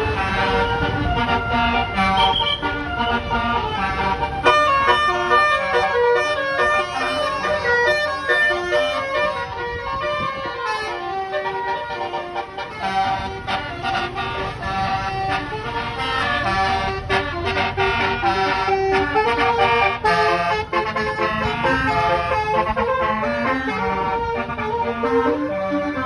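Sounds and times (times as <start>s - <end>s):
low vehicle noise: 0.0s - 26.0s
multi-tone air horn melody: 0.0s - 26.0s.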